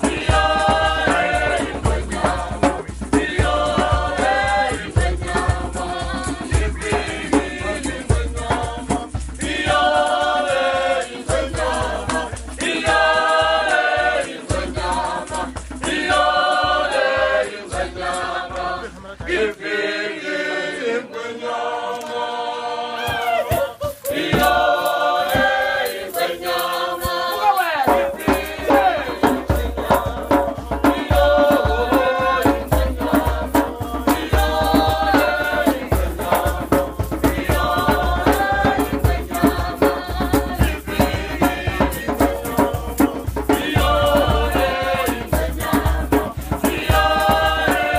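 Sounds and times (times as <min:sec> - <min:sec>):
steady drum beat: 0:00.0 - 0:20.6, 0:23.0 - 0:47.9
group singing: 0:00.0 - 0:47.9.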